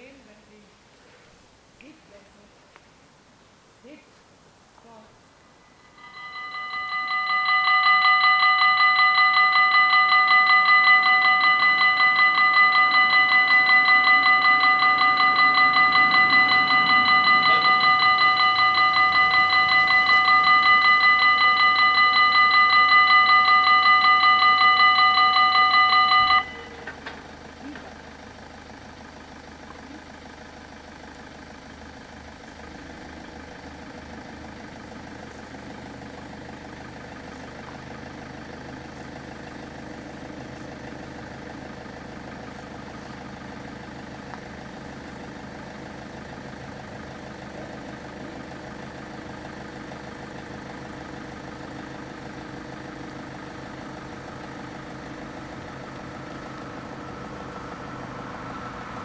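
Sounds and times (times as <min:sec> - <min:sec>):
low engine rumble: 0:00.0 - 0:59.0
level crossing warning bells: 0:05.5 - 0:59.0.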